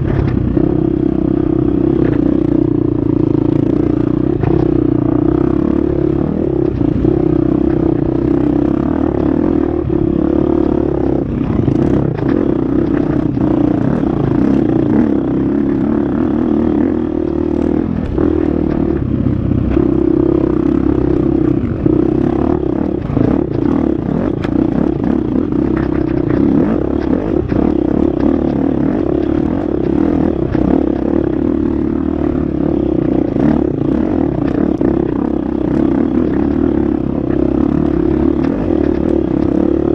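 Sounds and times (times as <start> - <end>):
dirt bike engine running hard: 0.0 - 39.9
bike clattering over rough ground: 1.8 - 39.9.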